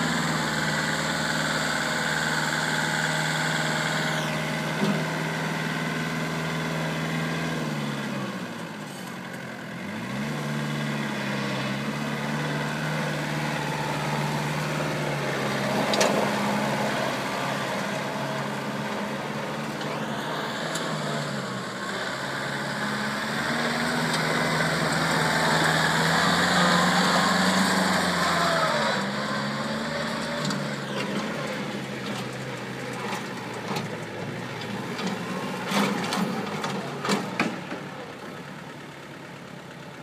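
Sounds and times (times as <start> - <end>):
tractor diesel engine passing: 0.0 - 40.0.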